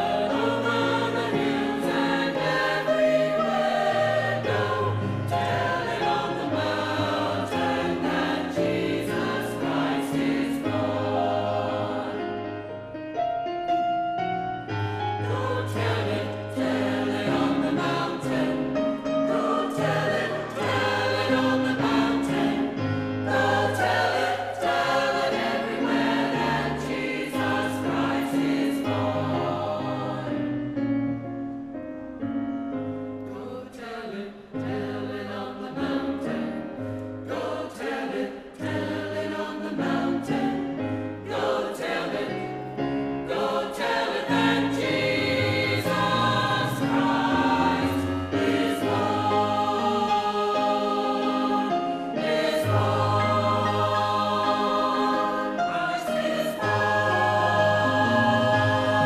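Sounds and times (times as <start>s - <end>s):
choir singing: 0.0s - 13.5s, 14.6s - 31.0s, 33.2s - 59.0s.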